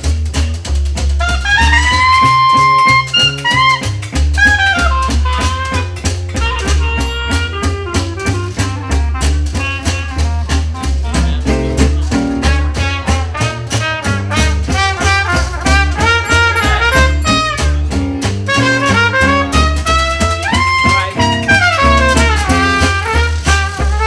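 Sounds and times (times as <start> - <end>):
upbeat swing jazz music: 0.0 - 24.0.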